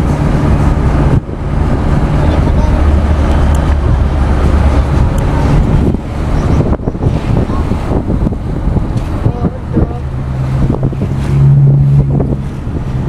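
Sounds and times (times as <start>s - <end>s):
low engine drone: 0.0s - 13.0s
moving vehicle rumble: 0.0s - 13.0s
wind buffeting microphone: 0.0s - 13.0s.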